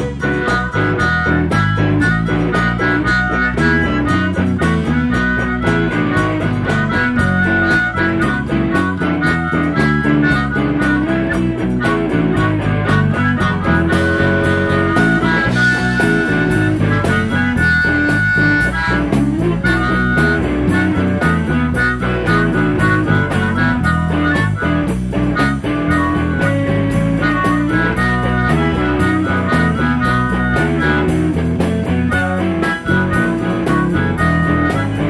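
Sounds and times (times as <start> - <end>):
drum beat: 0.0 - 35.0
electric guitar: 0.0 - 35.0
harmonica solo: 0.0 - 35.0.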